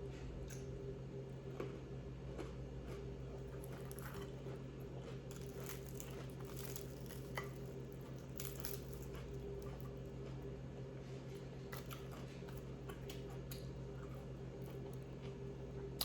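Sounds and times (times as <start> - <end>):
chewing and crunching food: 0.5 - 16.0.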